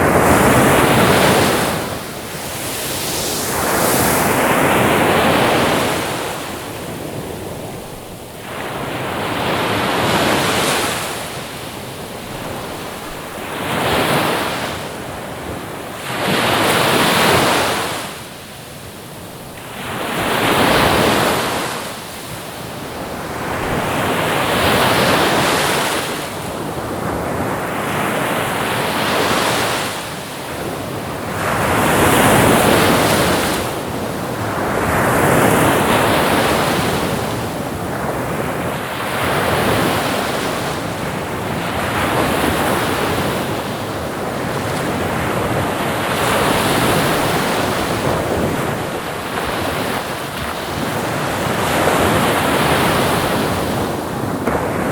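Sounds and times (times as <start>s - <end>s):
ocean waves breaking: 0.0s - 18.2s, 19.6s - 54.9s.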